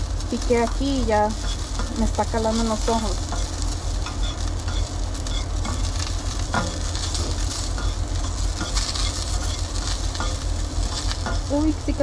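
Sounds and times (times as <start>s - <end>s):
onion sizzling in oil: 0.0s - 12.0s
steady low rumble: 0.0s - 12.0s.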